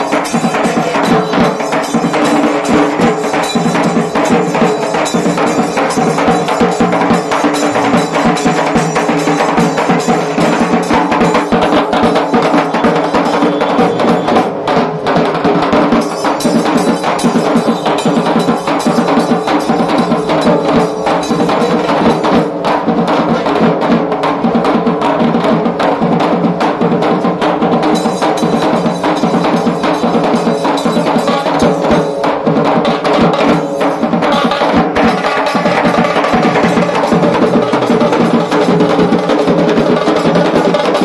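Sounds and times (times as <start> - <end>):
drum band playing fast rhythm: 0.0 - 41.0.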